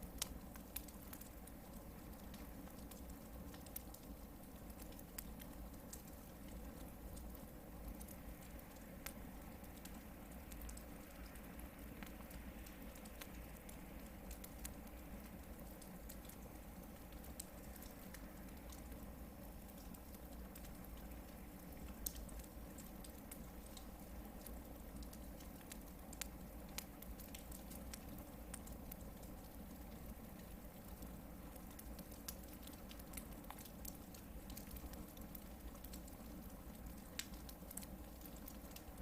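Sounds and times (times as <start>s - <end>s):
campfire crackling and popping: 0.0s - 39.0s.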